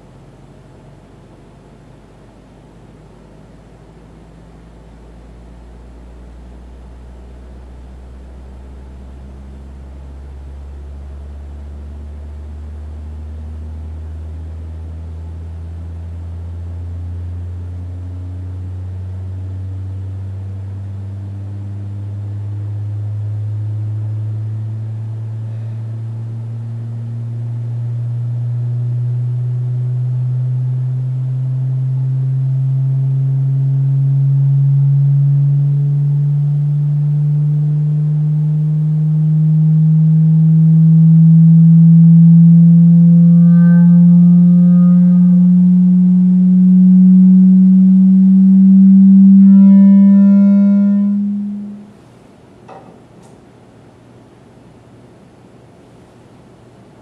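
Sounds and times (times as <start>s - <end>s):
low sine tone rising in pitch: 0.0s - 52.0s.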